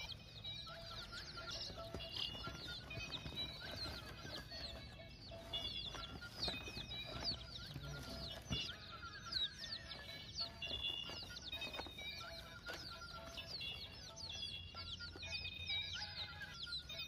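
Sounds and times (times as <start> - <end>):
chickens clucking and chirping: 0.0 - 17.0.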